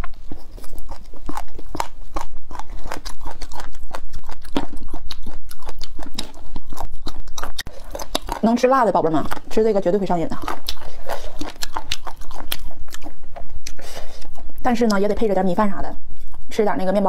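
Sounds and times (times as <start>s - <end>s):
crunchy chewing: 0.0s - 15.4s.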